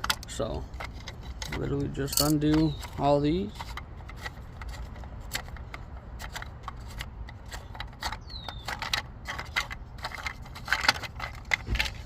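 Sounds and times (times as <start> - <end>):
hubcap fasteners clicking and rattling: 0.0 - 12.0.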